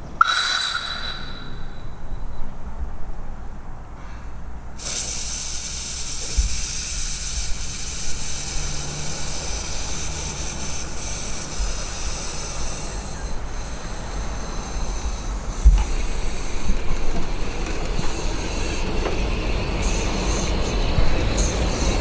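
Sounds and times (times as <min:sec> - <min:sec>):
steam hissing from engine: 0:00.0 - 0:02.1, 0:04.7 - 0:22.0.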